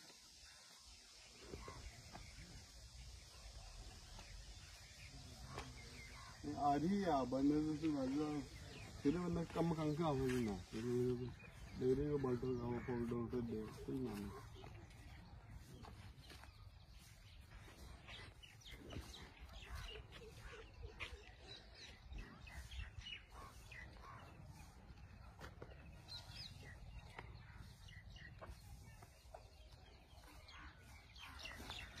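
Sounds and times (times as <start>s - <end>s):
faint bird chirps: 0.0s - 32.0s.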